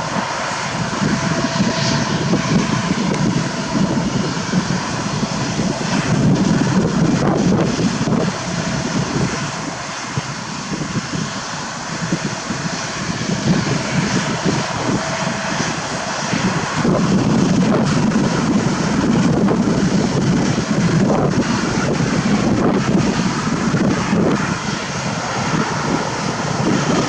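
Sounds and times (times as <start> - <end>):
jet engines roaring at takeoff: 0.0 - 27.0.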